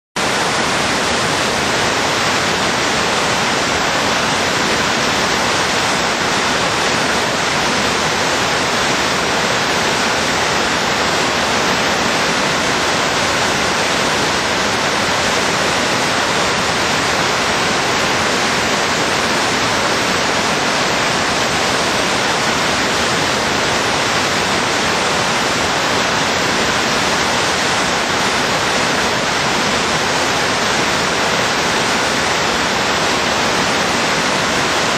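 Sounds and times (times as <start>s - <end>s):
whitewater rapid rushing: 0.2s - 34.9s.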